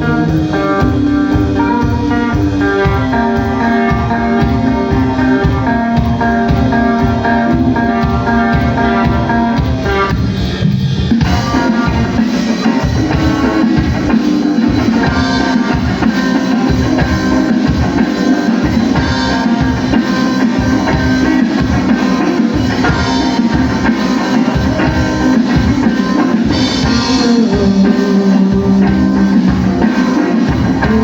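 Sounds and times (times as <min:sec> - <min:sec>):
drum kit beat: 0:00.0 - 0:31.0
guitar lines: 0:00.0 - 0:31.0
live rock band playing: 0:00.0 - 0:31.0.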